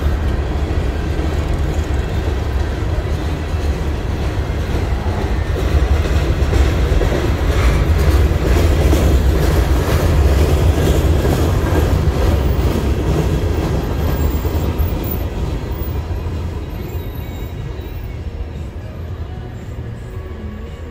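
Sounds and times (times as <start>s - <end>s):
steel wheels rolling on track: 0.0s - 20.9s.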